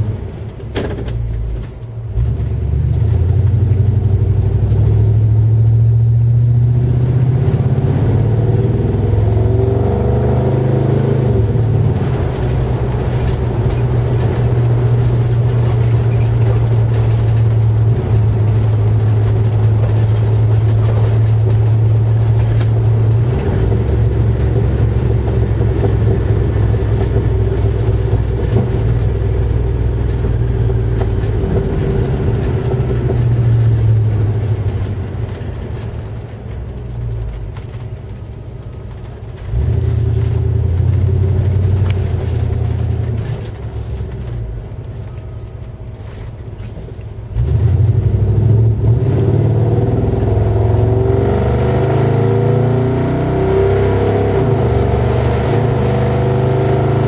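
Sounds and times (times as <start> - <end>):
low exhaust drone: 0.0 - 57.0.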